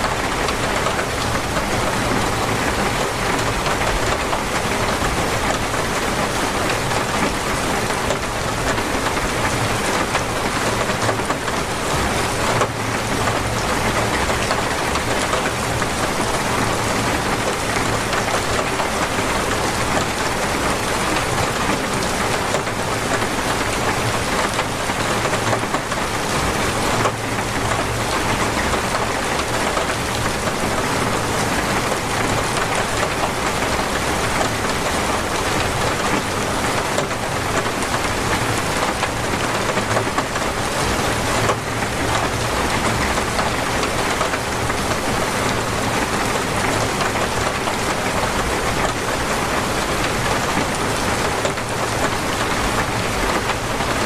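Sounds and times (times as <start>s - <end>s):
torrential rain pouring: 0.0s - 54.0s.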